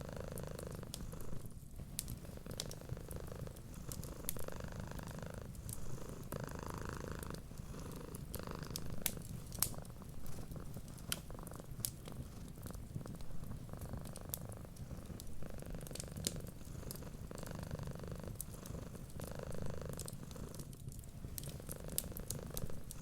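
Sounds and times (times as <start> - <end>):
cat purring: 0.0 - 23.0
wood fire crackling: 0.0 - 23.0.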